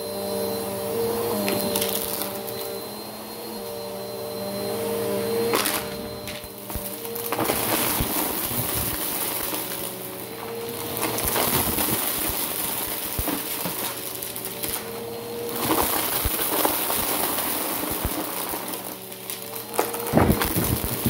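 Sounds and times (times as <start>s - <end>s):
vacuum cleaner motor humming: 0.0s - 21.0s
debris crackling in vacuum nozzle: 1.3s - 2.8s, 5.3s - 21.0s.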